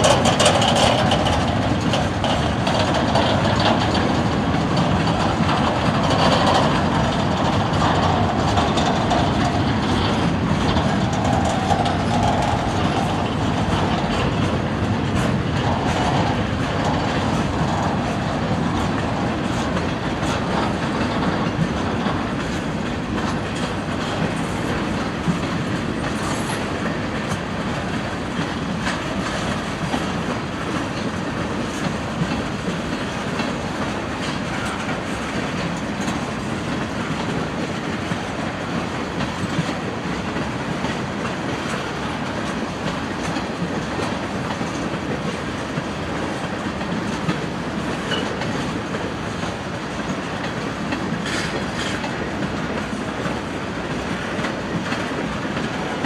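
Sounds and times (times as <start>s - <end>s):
train rumble: 0.0s - 56.0s
train wheels clicking over rail joints: 0.0s - 56.0s.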